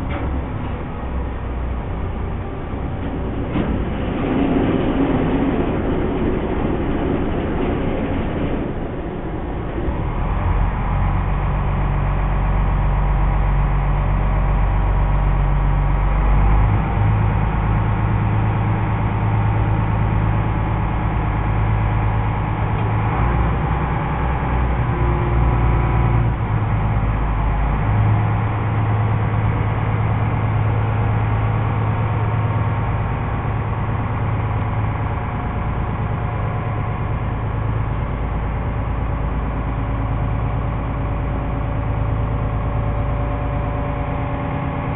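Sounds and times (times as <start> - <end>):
diesel engine drone: 0.0 - 44.9.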